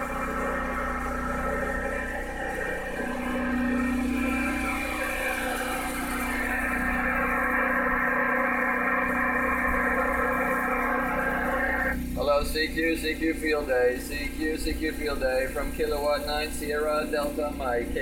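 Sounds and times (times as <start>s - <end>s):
small engine humming: 0.0s - 18.0s.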